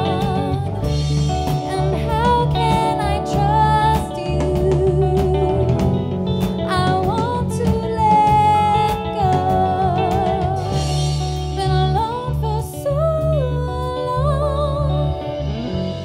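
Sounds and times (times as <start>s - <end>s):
backing band: 0.0s - 12.7s, 14.9s - 16.0s
woman singing into a microphone: 0.0s - 15.4s
deep bass line: 0.0s - 16.0s.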